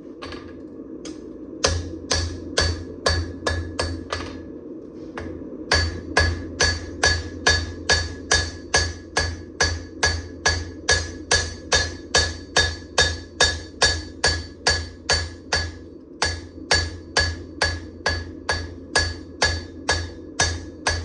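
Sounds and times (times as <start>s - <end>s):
steady low hum: 0.0s - 21.0s
hammer striking metal on anvil: 1.6s - 4.4s, 5.2s - 21.0s.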